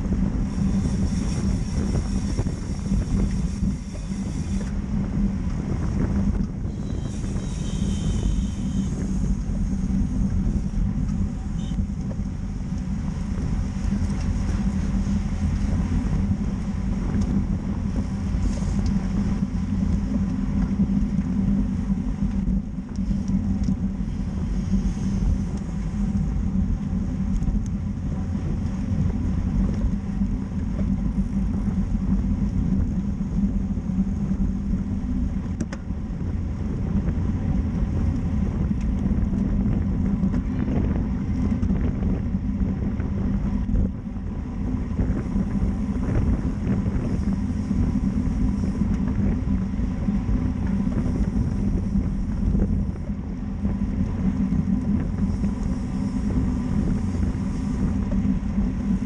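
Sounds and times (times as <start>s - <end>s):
bicycle tyre rumble: 0.0s - 59.0s
wind on microphone: 0.0s - 59.0s.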